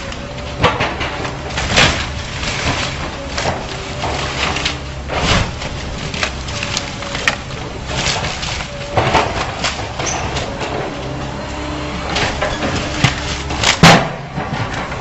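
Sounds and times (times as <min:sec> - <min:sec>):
heavy machinery engine running: 0:00.0 - 0:15.0
wood and debris cracking: 0:00.0 - 0:15.0.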